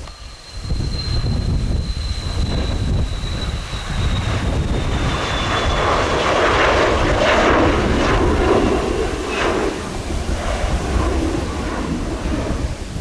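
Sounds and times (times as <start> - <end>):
jet engine rumble and whine: 0.0 - 13.0.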